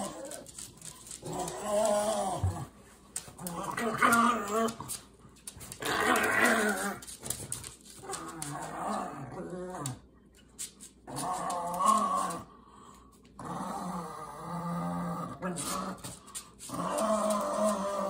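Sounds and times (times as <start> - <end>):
dogs growling: 0.0 - 7.3, 8.0 - 10.1, 11.0 - 12.6, 13.4 - 18.0.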